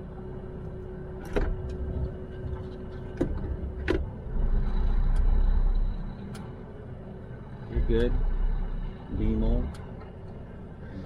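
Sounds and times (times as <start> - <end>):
truck engine rumble from inside cab: 0.0 - 11.0.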